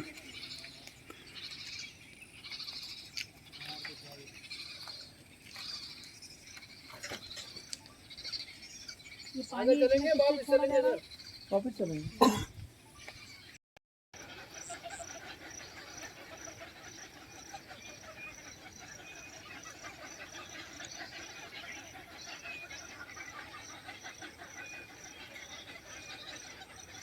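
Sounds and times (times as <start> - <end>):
chorus of birds chirping: 0.0 - 13.6, 14.2 - 27.0.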